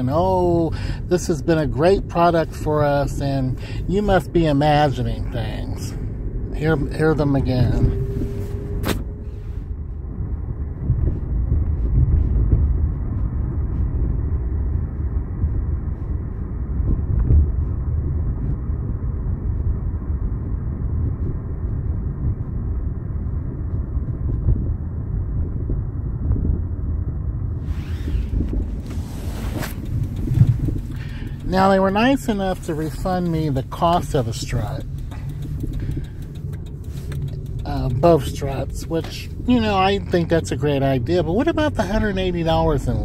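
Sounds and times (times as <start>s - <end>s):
car cabin road rumble: 0.0s - 43.0s.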